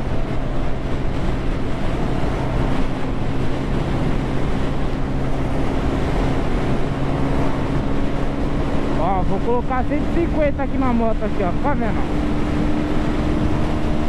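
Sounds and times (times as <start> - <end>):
motorcycle engine cruising: 0.0 - 14.0
wind noise on microphone: 0.0 - 14.0.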